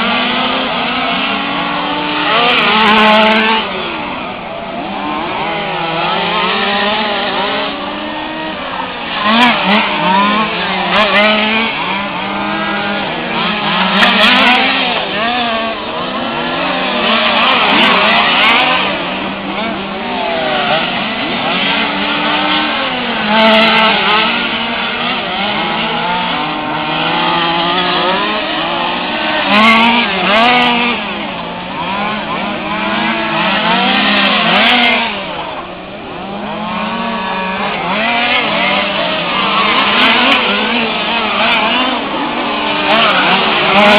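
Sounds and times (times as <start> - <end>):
model car engines racing: 0.0 - 43.9.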